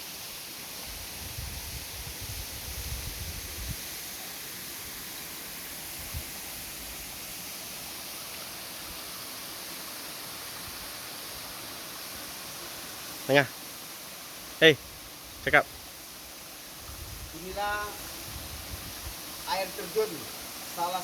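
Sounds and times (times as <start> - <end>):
waterfall rushing: 3.9 - 21.0.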